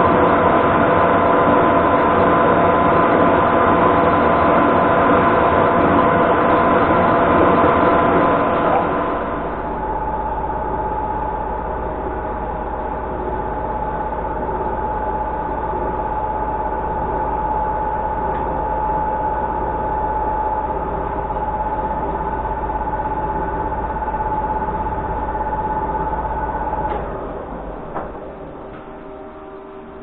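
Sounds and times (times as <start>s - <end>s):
metal lathe humming with high whine: 0.0s - 30.0s.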